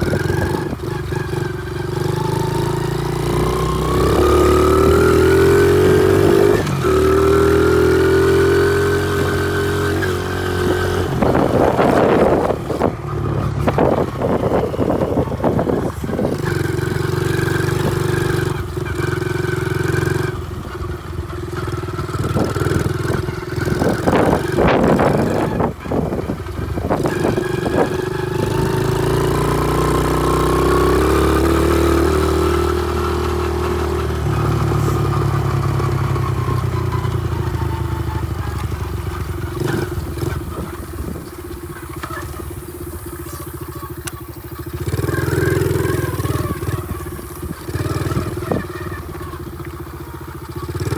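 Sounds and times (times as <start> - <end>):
motorbike engine revving: 0.0 - 50.9.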